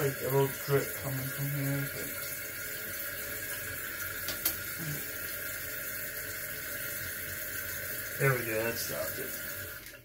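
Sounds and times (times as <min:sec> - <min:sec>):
water hissing into toilet tank: 0:00.0 - 0:10.0.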